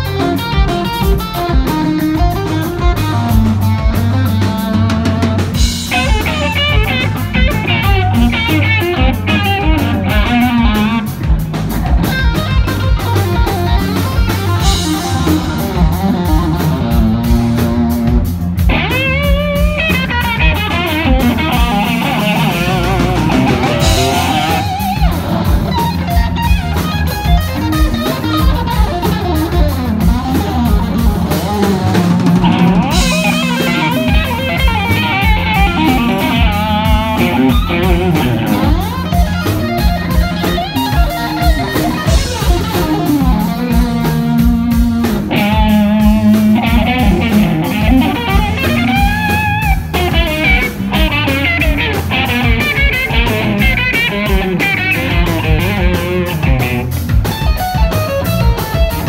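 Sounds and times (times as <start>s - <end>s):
bass guitar: 0.0s - 59.0s
drum kit steady beat: 0.0s - 59.0s
electric guitar lead: 0.0s - 59.0s.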